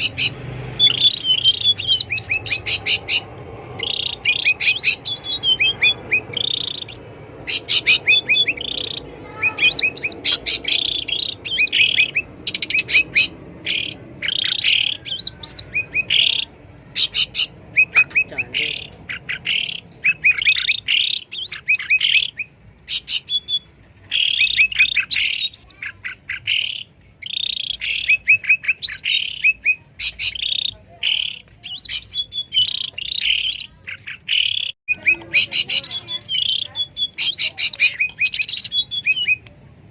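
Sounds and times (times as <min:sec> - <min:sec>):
bird chirping song: 0:00.0 - 0:39.6.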